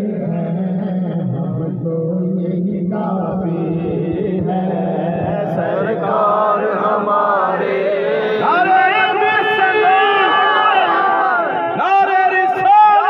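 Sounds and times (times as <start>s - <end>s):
man chanting into a microphone: 0.0s - 10.4s, 11.7s - 13.0s.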